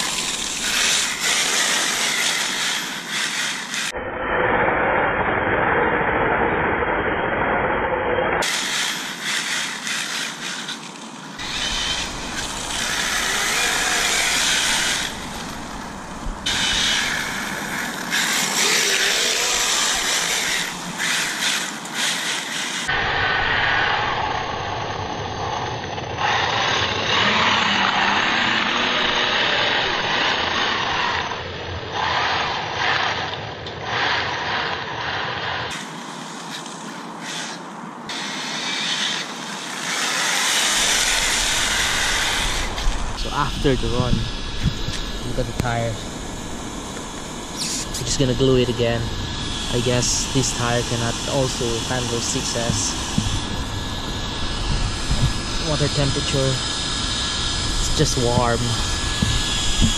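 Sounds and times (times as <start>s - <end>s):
rc car motor and tyre noise: 0.0s - 59.9s.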